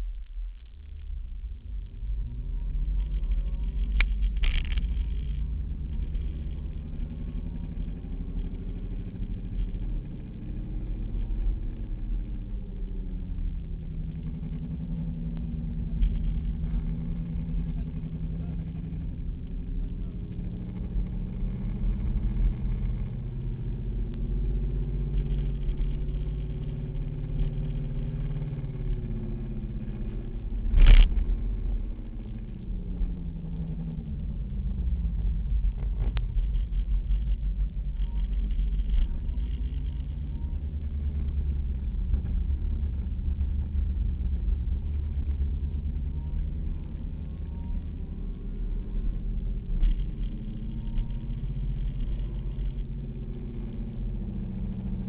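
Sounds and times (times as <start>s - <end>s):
car engine accelerating and shifting: 0.0s - 55.0s.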